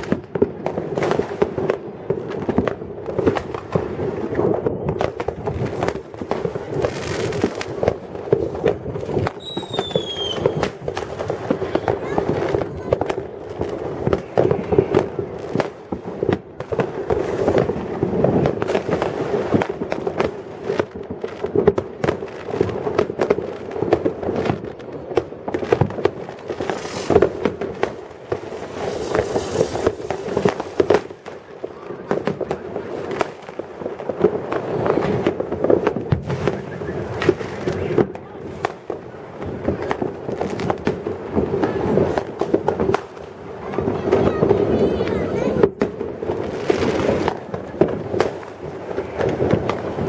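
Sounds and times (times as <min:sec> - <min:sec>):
distant fireworks rumble: 0:00.0 - 0:50.0
fireworks bangs and crackles: 0:00.0 - 0:50.0.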